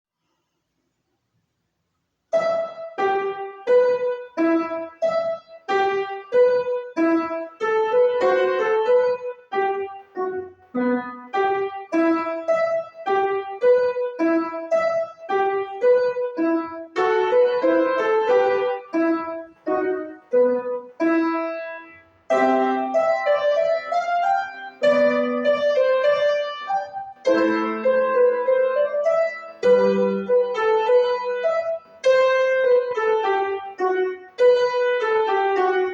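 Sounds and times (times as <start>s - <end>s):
solo piano: 2.3s - 35.9s.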